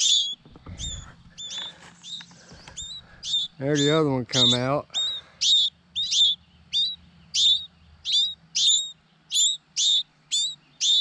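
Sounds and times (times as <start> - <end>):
fledgling birds begging chirps: 0.0 - 11.0.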